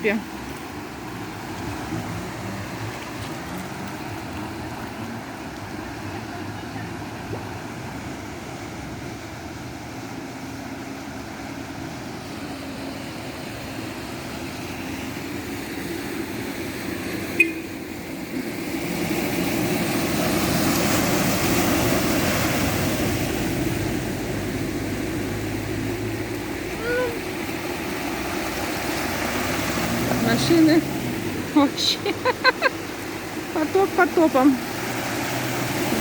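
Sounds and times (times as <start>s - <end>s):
vehicles driving through water: 0.0s - 36.0s.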